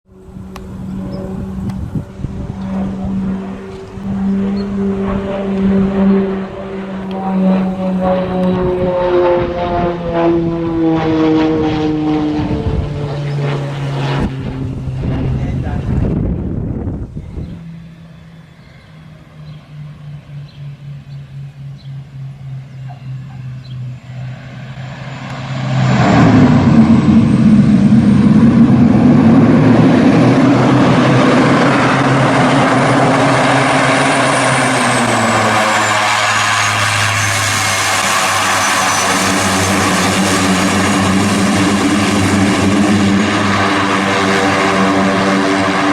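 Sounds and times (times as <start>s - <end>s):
high turbine whine: 0.0s - 45.9s
turboprop engines running: 0.0s - 45.9s.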